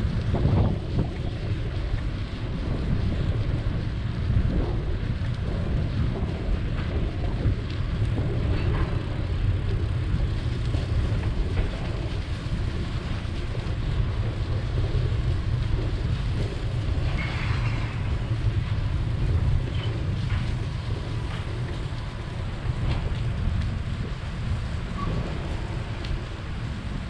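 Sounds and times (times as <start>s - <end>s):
bicycle tyres rolling on concrete: 0.0s - 27.0s
wind buffeting microphone: 0.0s - 27.0s.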